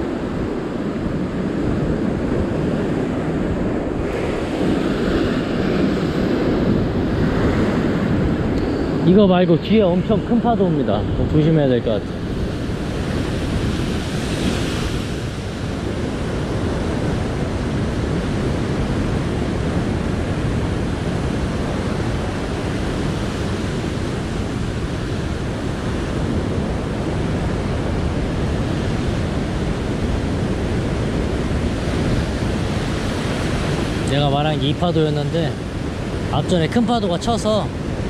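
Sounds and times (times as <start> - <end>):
ocean waves crashing on rock: 0.0 - 38.0.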